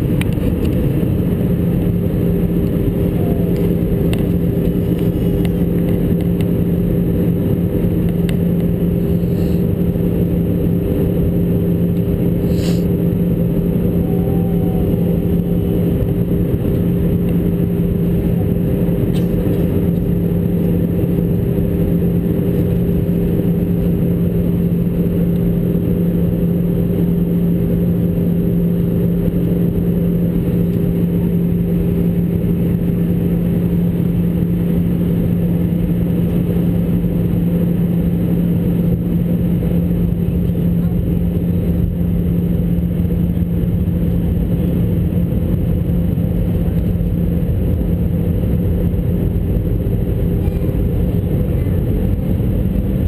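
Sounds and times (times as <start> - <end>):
jet cabin air rush and hum: 0.0 - 53.0.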